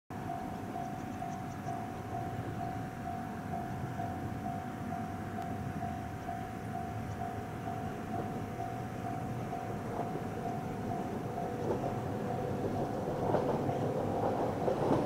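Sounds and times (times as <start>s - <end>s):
level-crossing warning bell: 0.1s - 15.0s.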